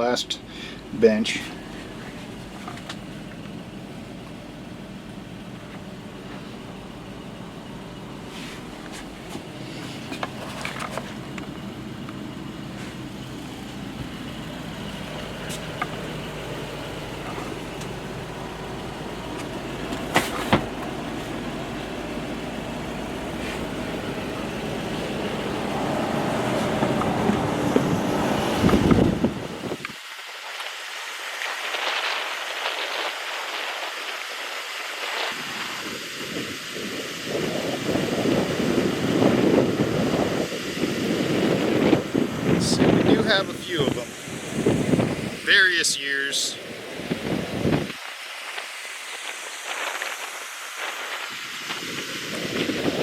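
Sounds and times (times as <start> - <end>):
bus engine idling: 0.0 - 29.8, 33.2 - 53.0.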